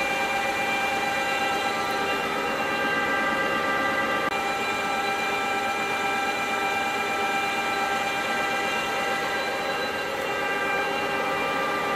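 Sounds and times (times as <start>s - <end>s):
lathe running: 0.0s - 11.9s.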